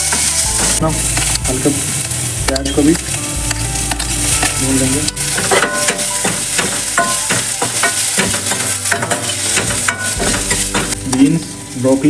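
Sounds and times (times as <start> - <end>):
metal ladle scraping a pan: 0.0 - 11.1
light frying sizzle: 0.0 - 12.0.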